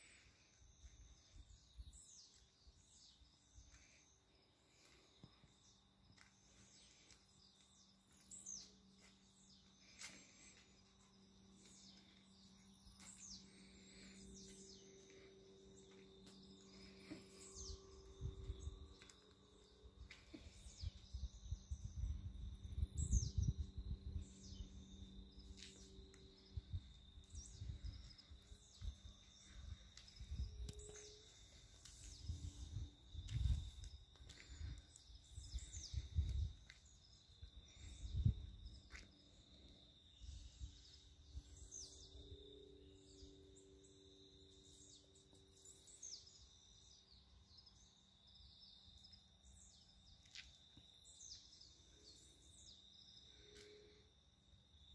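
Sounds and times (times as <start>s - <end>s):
birds chirping: 0.0s - 47.9s
faint high whine: 0.0s - 54.9s.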